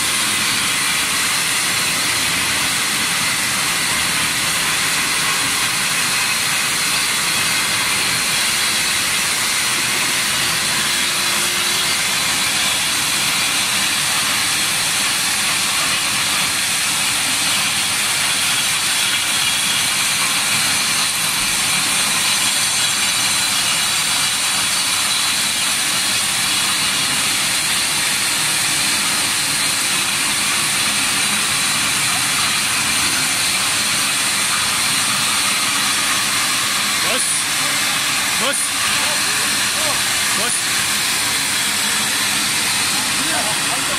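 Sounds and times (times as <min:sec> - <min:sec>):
concrete floor grinder running: 0:00.0 - 0:43.9.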